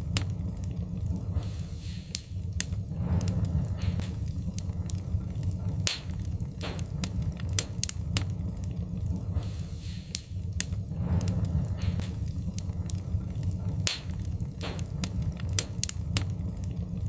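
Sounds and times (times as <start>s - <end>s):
fire hissing rushes: 0.0s - 17.0s
wood fire crackling: 0.0s - 17.0s.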